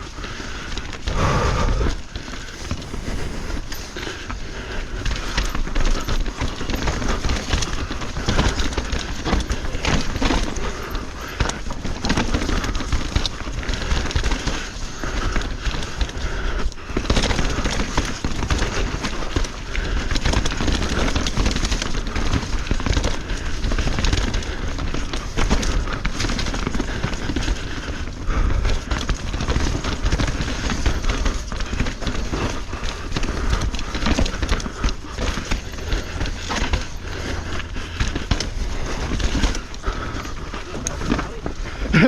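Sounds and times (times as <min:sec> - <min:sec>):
bike rattling and clicking: 0:00.0 - 0:42.0
tyres on dirt and rock: 0:00.0 - 0:42.0.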